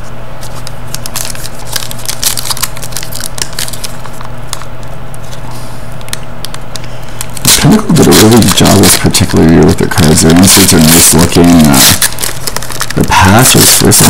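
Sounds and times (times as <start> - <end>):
steady low hum: 0.0 - 14.0
foil pack crackling: 0.4 - 14.0.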